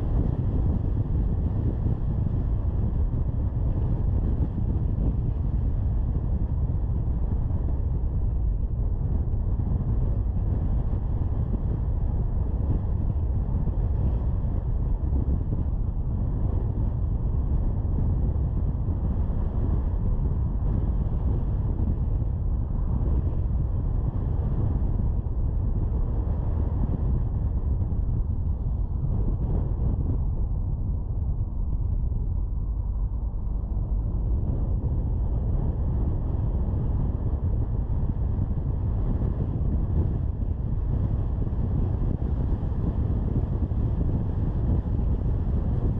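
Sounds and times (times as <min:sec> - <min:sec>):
car engine and tyre noise: 0:00.0 - 0:45.9
wind on microphone: 0:00.0 - 0:45.9.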